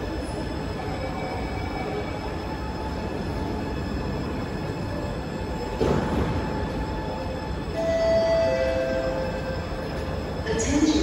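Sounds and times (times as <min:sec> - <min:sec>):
faint steady whining tones: 0:00.0 - 0:11.0
train equipment rumble and hum: 0:00.0 - 0:11.0.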